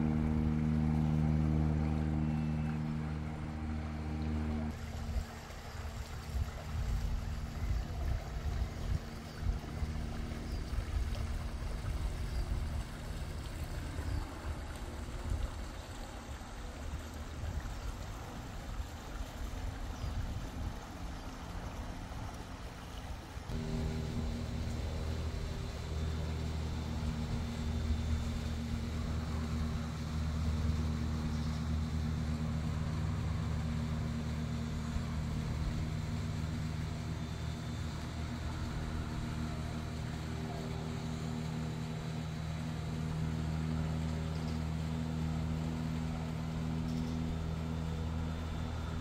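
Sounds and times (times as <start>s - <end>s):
machine humming: 0.0s - 49.0s.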